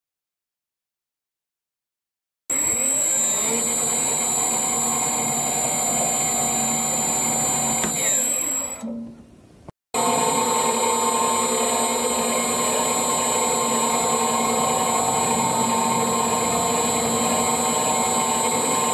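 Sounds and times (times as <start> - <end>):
vegetable cutting machine humming: 2.5 - 8.9, 10.0 - 18.9.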